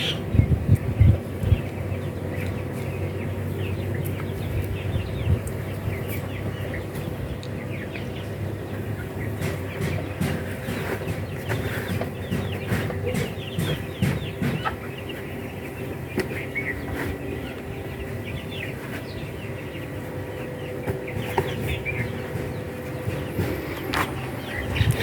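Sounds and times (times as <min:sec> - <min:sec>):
chickens chirping: 0:00.0 - 0:25.0
steady low hum: 0:00.0 - 0:25.0.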